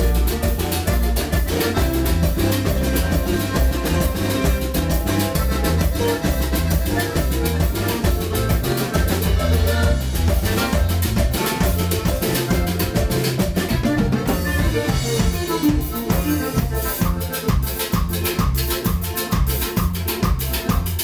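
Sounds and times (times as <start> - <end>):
acoustic guitar: 0.0 - 21.0
drum kit: 0.0 - 21.0
electric bass: 0.0 - 21.0.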